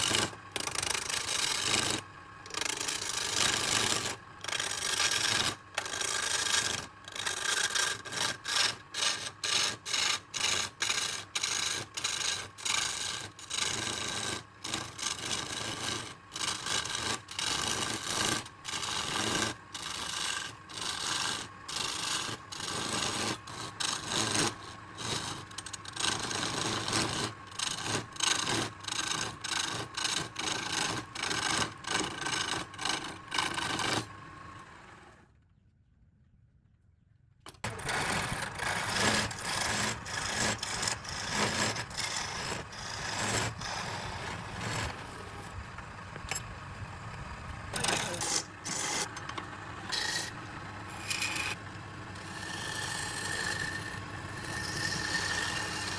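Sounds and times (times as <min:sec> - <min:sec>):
lathe tool rasping on wood: 0:00.0 - 0:34.2, 0:37.7 - 0:45.6, 0:47.7 - 0:55.9.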